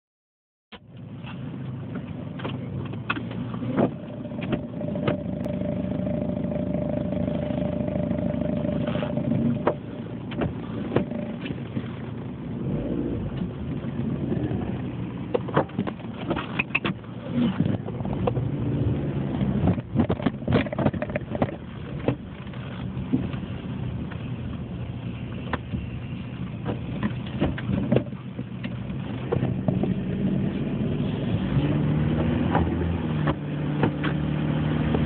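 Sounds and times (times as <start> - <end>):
car engine running: 0.7 - 35.0.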